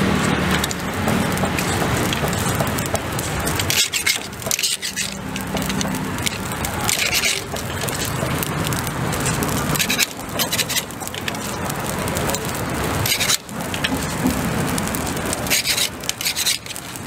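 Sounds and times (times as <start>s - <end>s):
charcoal fire: 0.0s - 17.0s
tongs scraping on grill grate: 0.1s - 17.0s.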